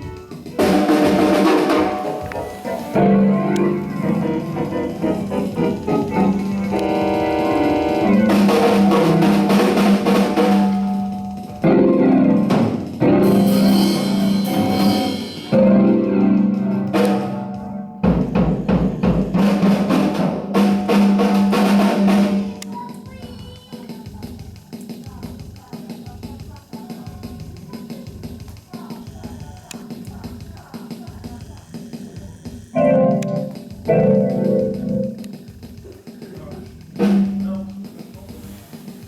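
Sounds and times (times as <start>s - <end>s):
drums and snare rolls: 0.0s - 39.0s.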